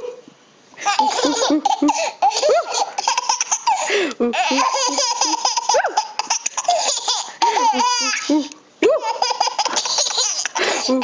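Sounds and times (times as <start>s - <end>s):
babies laughing: 0.8s - 11.0s.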